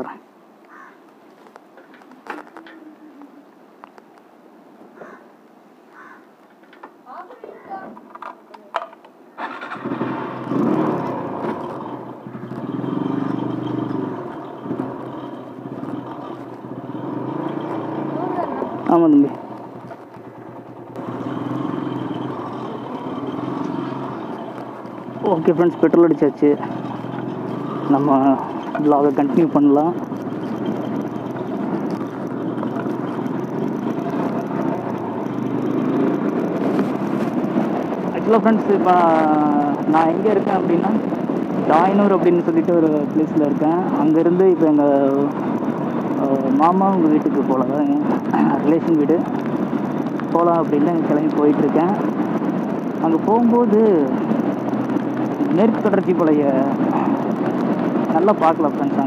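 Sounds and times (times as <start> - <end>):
road noise: 0.0 - 59.0
motorcycle engine running: 9.4 - 59.0.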